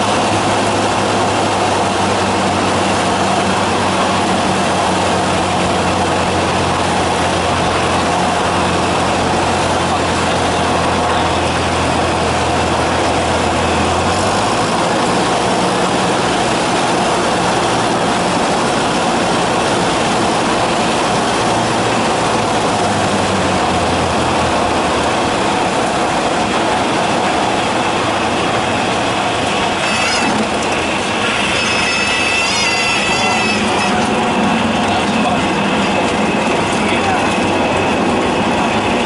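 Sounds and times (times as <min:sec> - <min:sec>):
aircraft engine drone in cabin: 0:00.0 - 0:39.0.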